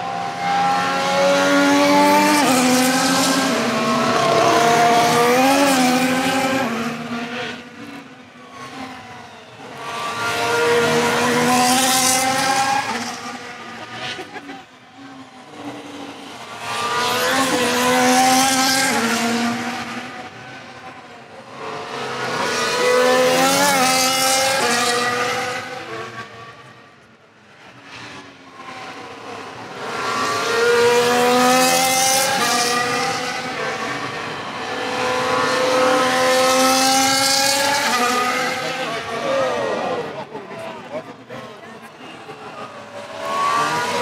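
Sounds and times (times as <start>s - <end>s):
race car engines passing: 0.0s - 44.0s.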